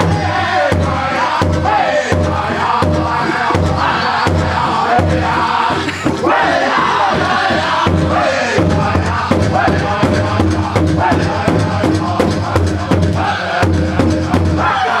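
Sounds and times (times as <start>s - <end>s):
large drum beating: 0.0s - 14.8s
group singing in high voices: 0.0s - 15.0s.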